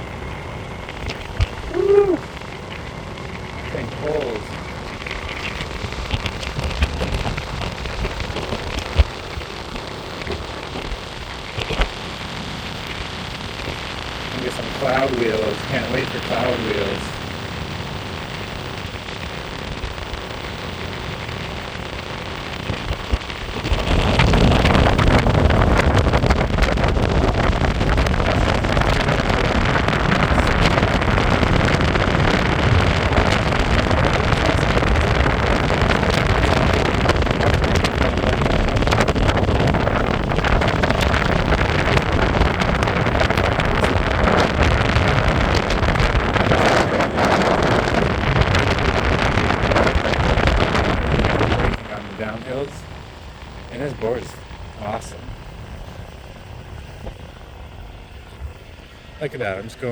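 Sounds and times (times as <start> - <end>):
skateboard wheels rolling on pavement: 0.0 - 59.9
wind rushing over microphone: 0.0 - 59.9.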